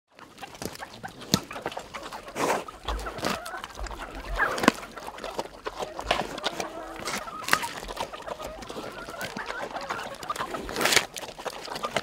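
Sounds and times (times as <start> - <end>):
chickens clucking: 0.1 - 12.0
pig chewing coconut: 0.1 - 12.0.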